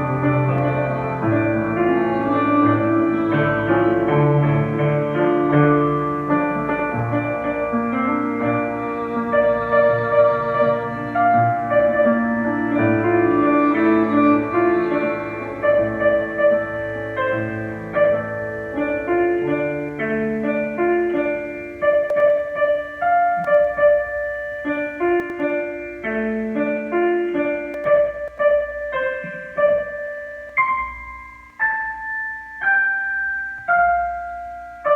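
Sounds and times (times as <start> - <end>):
piano music: 0.0 - 34.9.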